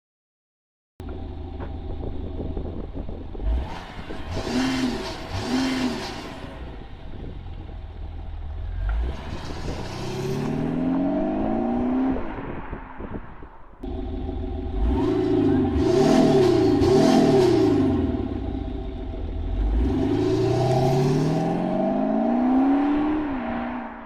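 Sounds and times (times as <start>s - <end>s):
diesel engine idling and revving: 1.0s - 12.2s, 13.8s - 23.7s.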